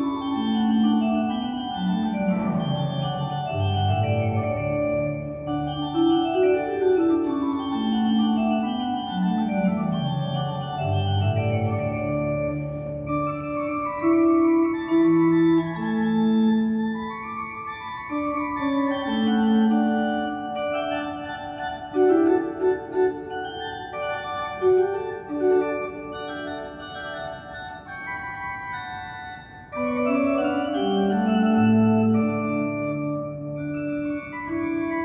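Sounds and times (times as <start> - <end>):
pipe organ playing: 0.0 - 35.0.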